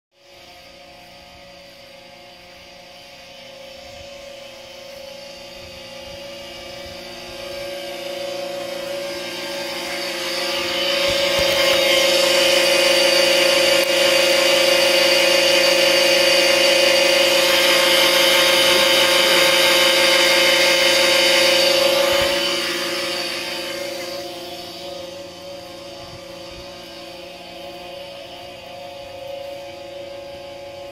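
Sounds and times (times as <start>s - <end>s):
pool pump motor humming: 0.1s - 30.9s.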